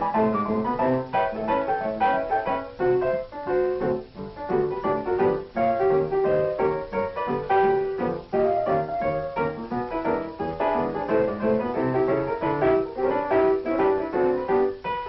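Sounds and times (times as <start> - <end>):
solo piano playing: 0.0 - 15.0.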